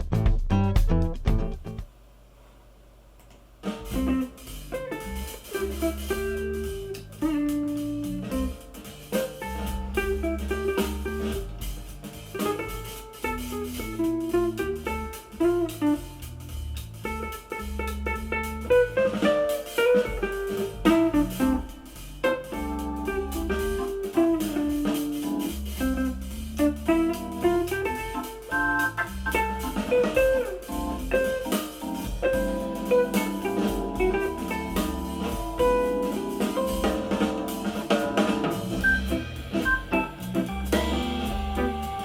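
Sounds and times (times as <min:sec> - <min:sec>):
guitar music with deep bass: 0:00.0 - 0:01.8, 0:03.9 - 0:42.0.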